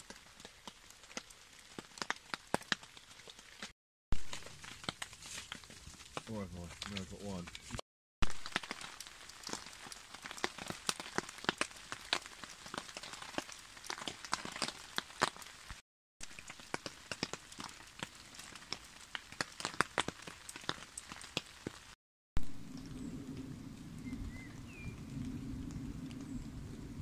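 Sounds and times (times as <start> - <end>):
rain hissing on tarp: 0.0 - 27.0.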